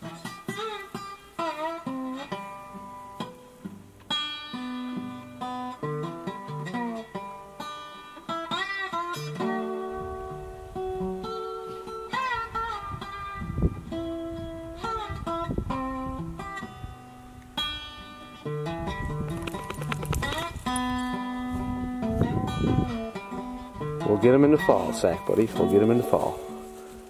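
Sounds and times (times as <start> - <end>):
plucked guitar melody: 0.0 - 27.0.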